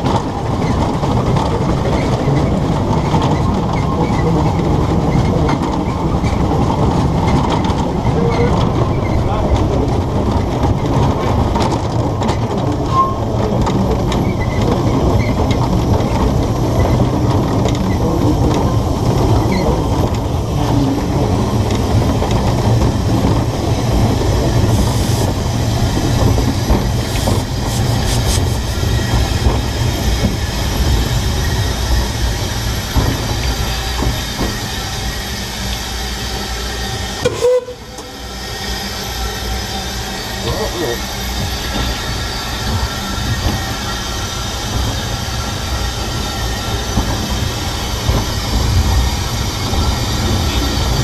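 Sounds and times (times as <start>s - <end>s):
steam locomotive rumbling on track: 0.0s - 51.0s.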